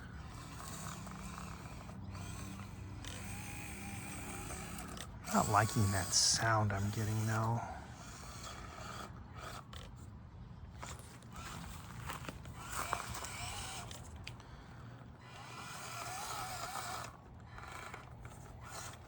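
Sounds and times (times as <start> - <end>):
scrapes and clicks from toy car: 0.0 - 19.0
small electric motor whirring: 0.0 - 19.0.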